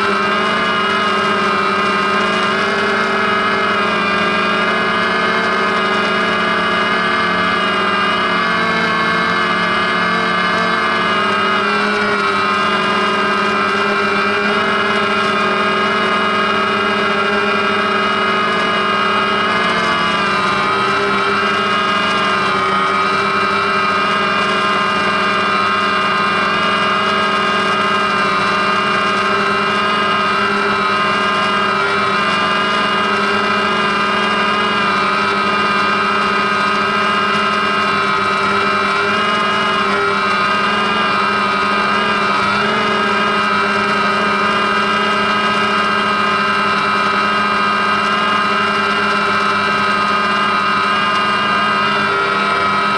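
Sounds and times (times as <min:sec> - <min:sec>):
drone propellers whining: 0:00.0 - 0:52.9.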